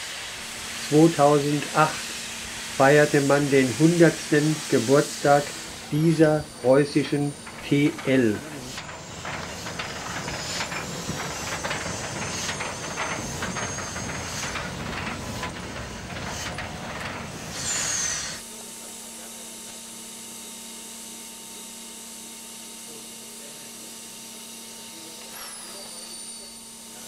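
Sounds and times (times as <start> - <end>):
steam locomotive hissing steam: 0.0 - 27.0.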